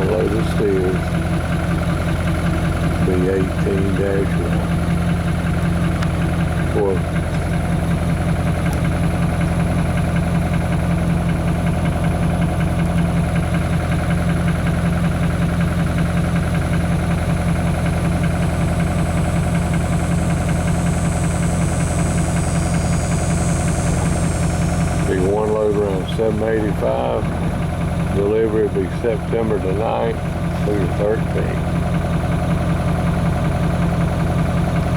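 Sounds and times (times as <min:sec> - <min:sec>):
low mechanical drone: 0:00.0 - 0:34.9.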